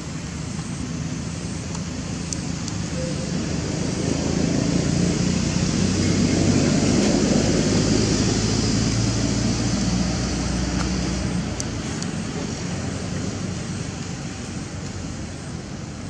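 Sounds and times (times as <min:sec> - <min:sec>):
low engine drone with hiss: 0:00.0 - 0:16.0.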